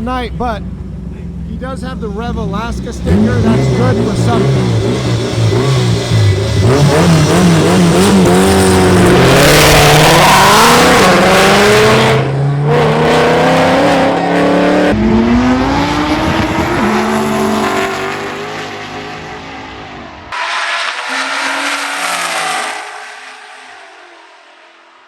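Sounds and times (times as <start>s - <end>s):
race cars accelerating: 0.0s - 25.0s.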